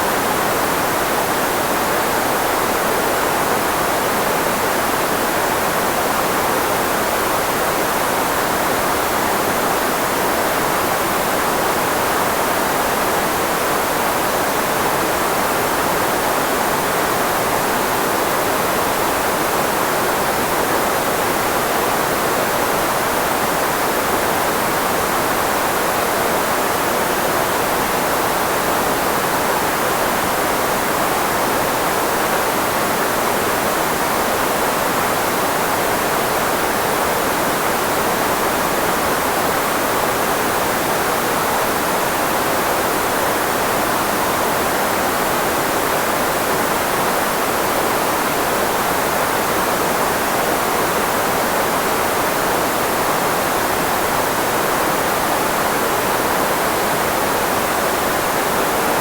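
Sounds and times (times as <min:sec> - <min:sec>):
filtered white noise hiss: 0:00.0 - 0:59.0.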